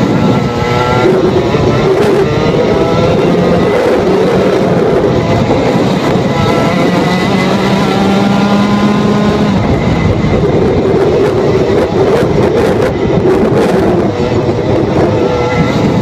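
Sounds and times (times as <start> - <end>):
kart engine at full throttle: 0.0 - 16.0.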